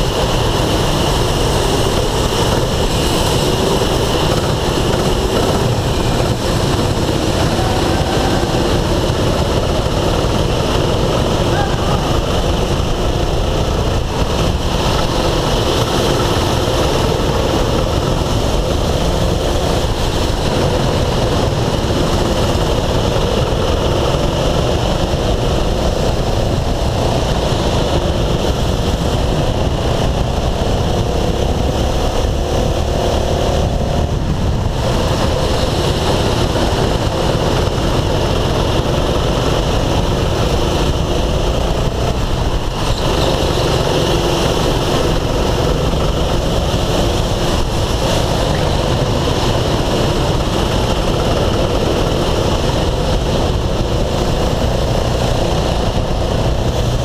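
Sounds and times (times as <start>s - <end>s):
go-kart engine accelerating: 0.0s - 57.0s
wind and road noise: 0.0s - 57.0s.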